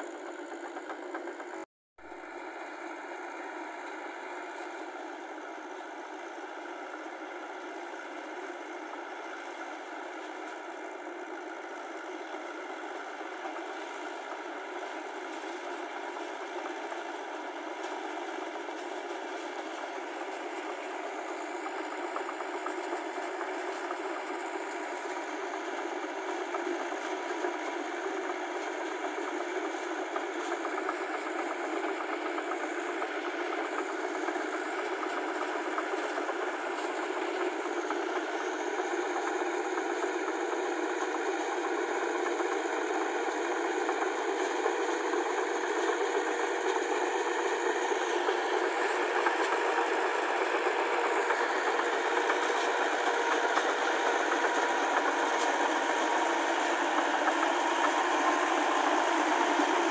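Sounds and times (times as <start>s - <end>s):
tractor engine running: 0.0s - 1.6s, 2.3s - 59.9s.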